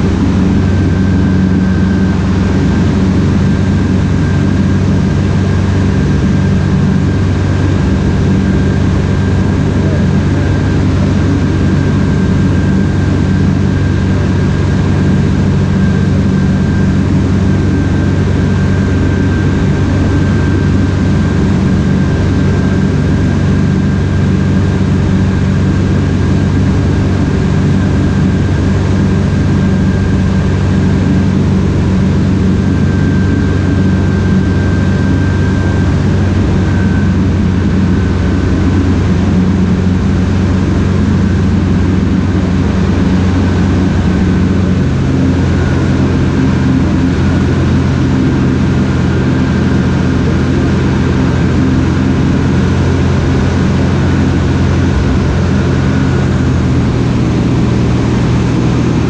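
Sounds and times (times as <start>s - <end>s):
air rushing around cabin: 0.0s - 59.0s
aircraft engine and propeller droning: 0.0s - 59.0s.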